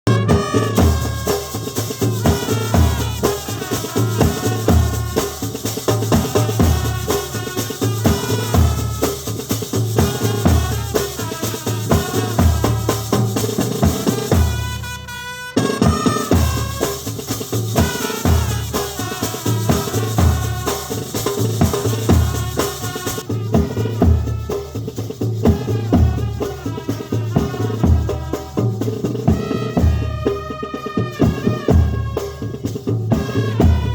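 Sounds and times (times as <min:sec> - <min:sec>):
bass drum and snare beat: 0:00.0 - 0:33.9
brass band playing: 0:00.0 - 0:33.9.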